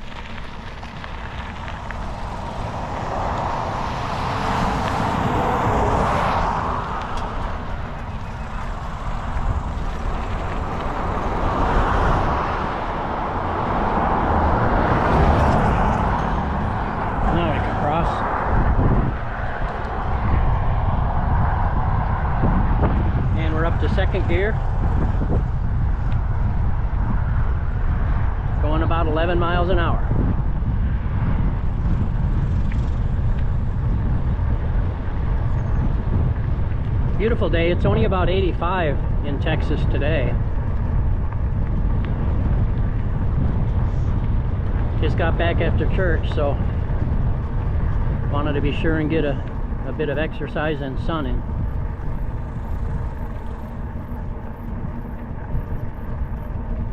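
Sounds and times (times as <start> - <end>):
bike tyres on pavement: 0.0 - 56.9
road noise: 0.0 - 56.9
wind rushing on microphone: 0.0 - 56.9.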